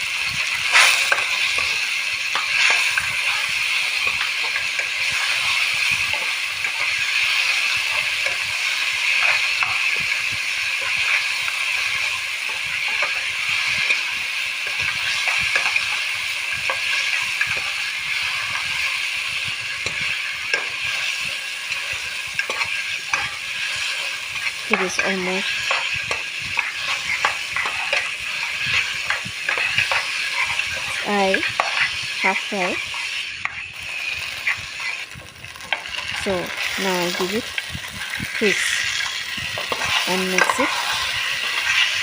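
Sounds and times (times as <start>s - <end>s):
curry sizzling in a pan: 0.0s - 42.0s
stirring taps and scrapes: 0.2s - 42.0s.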